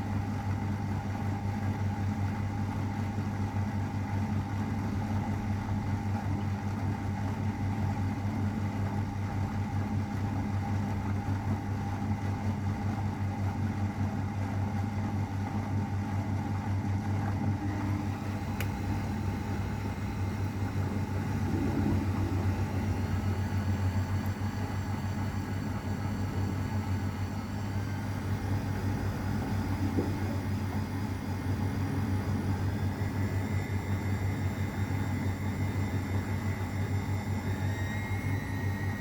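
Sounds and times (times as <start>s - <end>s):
washing machine motor hum: 0.0s - 39.0s.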